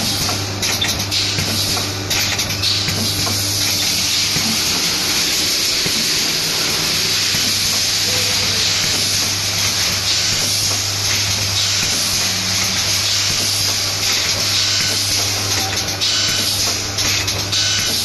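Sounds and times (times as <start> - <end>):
low machine hum: 0.0 - 18.0
machine hissing: 0.0 - 18.0.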